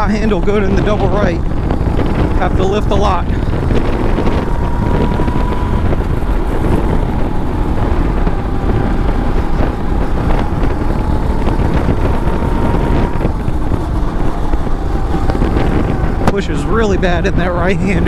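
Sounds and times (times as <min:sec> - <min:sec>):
kart engine running hard: 0:00.0 - 0:18.0
wind rush on microphone: 0:00.0 - 0:18.0.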